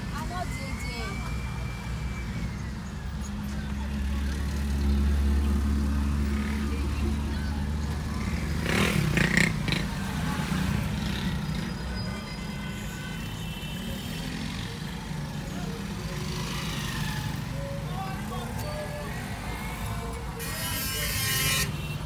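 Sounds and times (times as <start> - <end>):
low steady traffic hum: 0.0 - 22.0.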